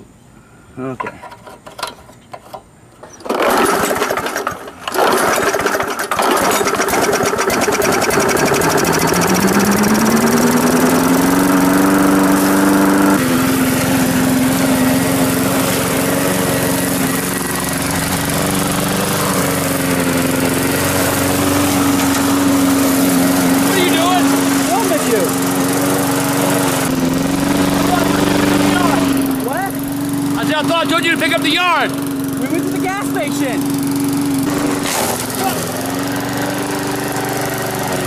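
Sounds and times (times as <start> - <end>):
lawn mower engine running: 1.6 - 38.0.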